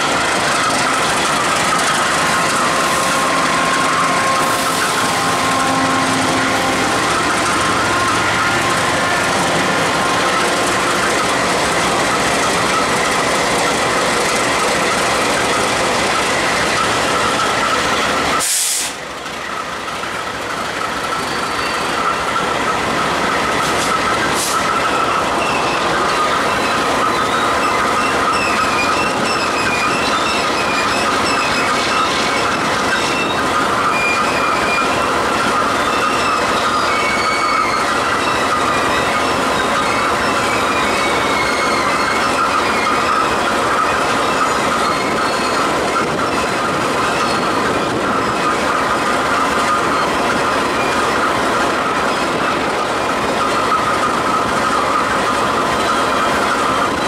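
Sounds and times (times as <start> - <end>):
freight train passing: 0.0 - 57.0
wheels squealing on rails: 0.0 - 57.0.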